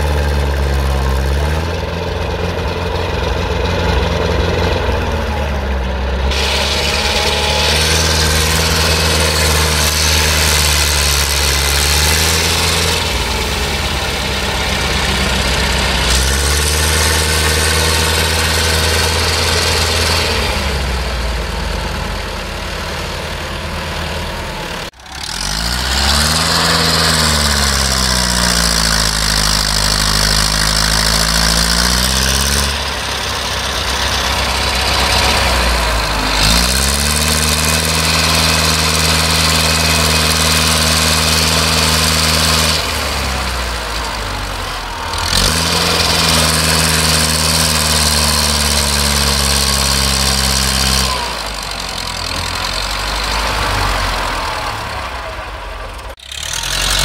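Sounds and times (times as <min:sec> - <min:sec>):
tractor engines revving: 0:00.0 - 0:57.0.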